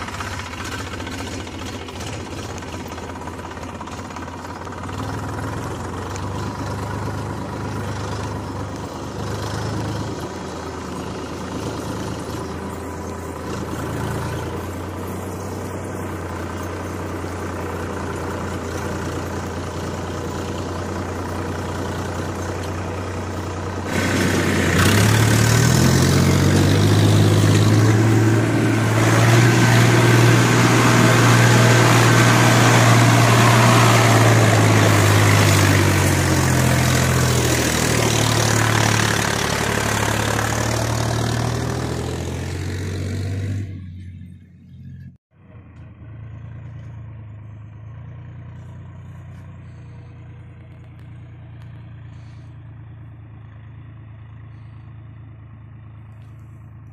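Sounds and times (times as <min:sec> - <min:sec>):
tractor diesel engine revving: 0:00.0 - 0:56.9.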